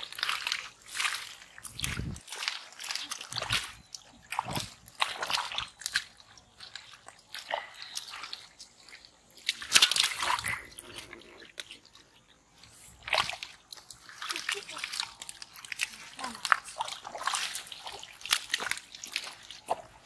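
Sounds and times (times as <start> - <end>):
hands splashing in muddy water: 0.0 - 20.0.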